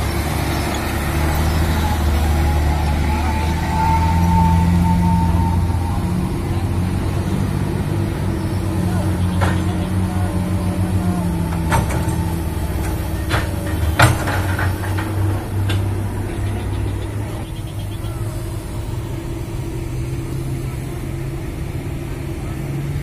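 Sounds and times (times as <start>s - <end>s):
diesel engines running: 0.0s - 23.0s.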